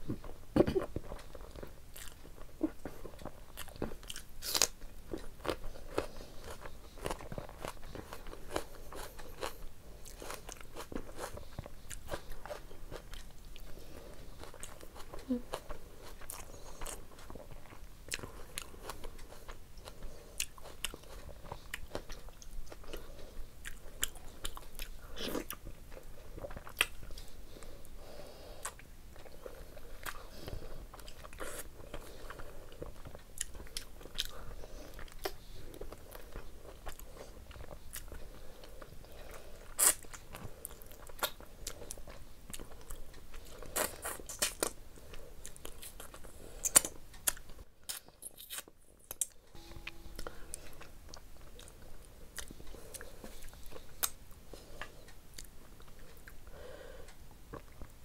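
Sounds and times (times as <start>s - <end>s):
person chewing meat: 0.0s - 58.0s.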